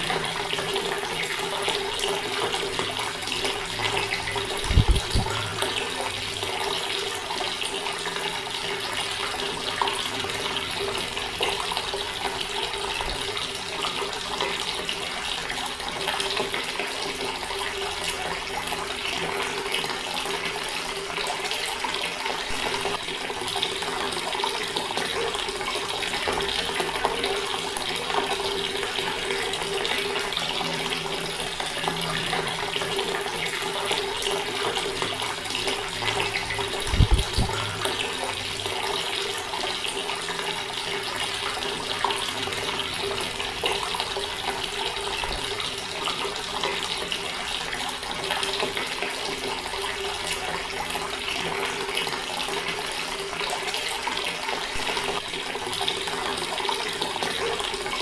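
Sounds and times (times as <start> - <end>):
water tap running: 0.0 - 58.0.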